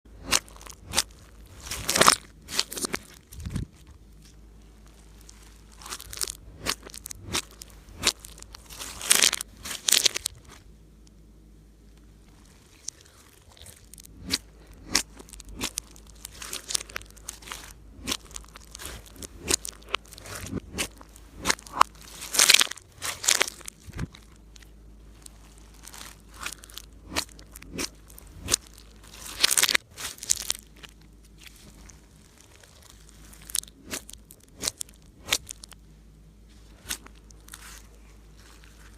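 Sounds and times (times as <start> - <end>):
slime squeezed sticky crackles: 0.2 - 11.2, 12.0 - 35.8, 36.5 - 38.9.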